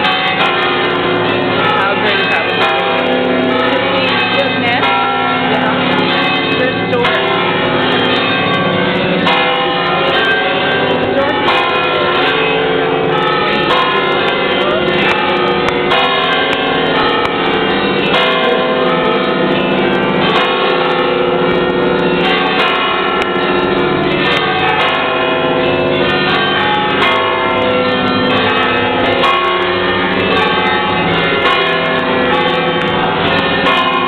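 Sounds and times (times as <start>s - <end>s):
church bells pealing: 0.0s - 34.0s.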